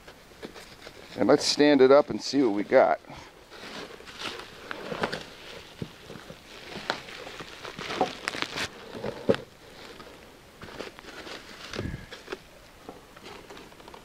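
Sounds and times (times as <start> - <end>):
bubble wrap and cardboard rustling: 0.0 - 14.0.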